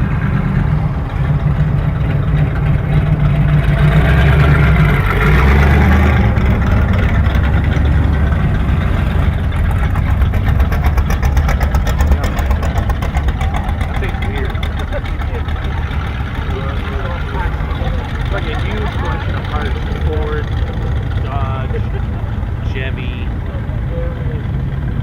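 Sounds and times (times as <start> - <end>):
cars driving past: 0.0 - 25.0
engine with fast even pulse: 0.0 - 25.0.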